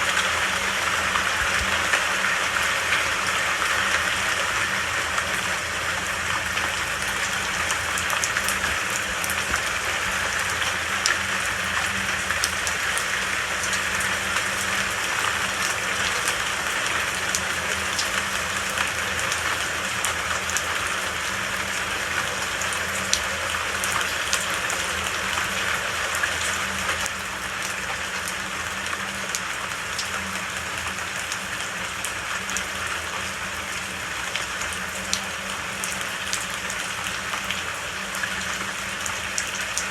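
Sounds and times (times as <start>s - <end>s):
raindrops ticking: 0.0s - 32.7s
steady rain in a forest: 0.0s - 39.9s.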